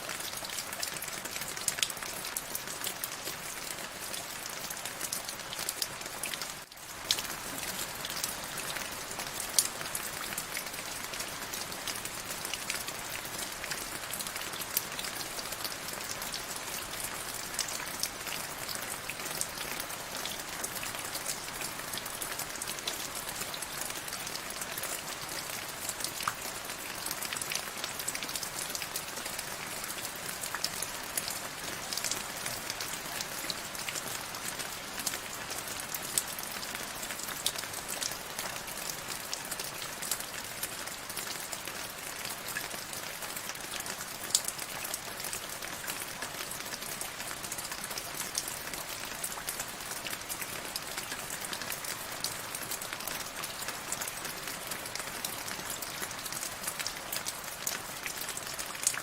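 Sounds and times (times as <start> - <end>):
steady rain: 0.0 - 59.0
raindrops ticking on a surface: 0.1 - 59.0.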